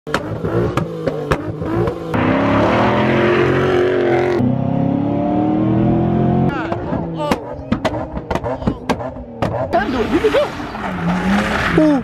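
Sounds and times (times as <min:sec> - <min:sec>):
car engine revving at full throttle: 0:00.1 - 0:11.9.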